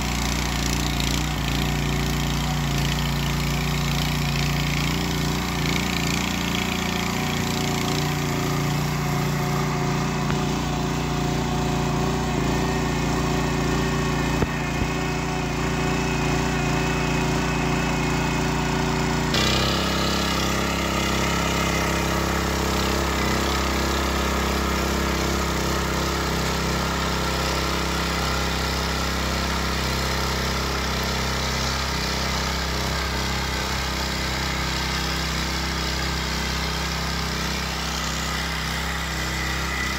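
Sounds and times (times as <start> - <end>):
tiller engine running: 0.0 - 39.9.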